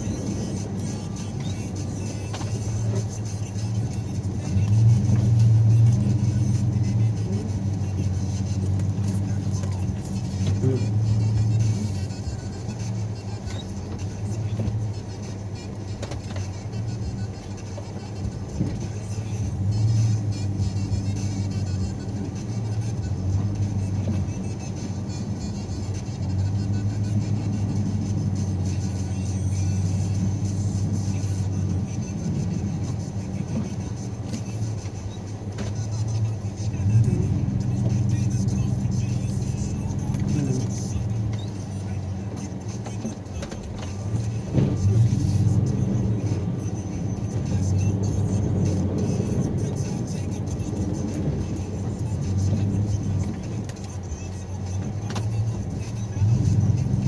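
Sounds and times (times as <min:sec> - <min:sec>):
snowplow engine running: 0:00.0 - 0:57.0.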